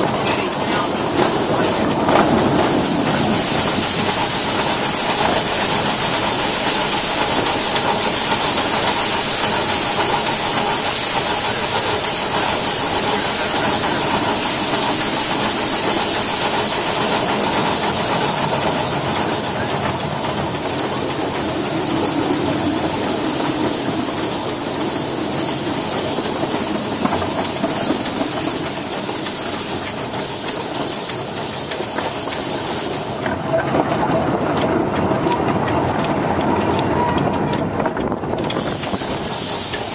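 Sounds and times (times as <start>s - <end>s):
steam hissing: 0.0s - 33.8s, 35.8s - 39.9s
train running: 0.0s - 39.9s.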